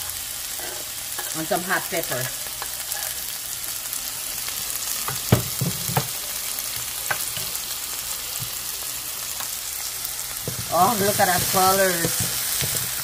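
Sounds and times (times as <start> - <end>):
vegetables sizzling in frying pan: 0.0 - 13.0.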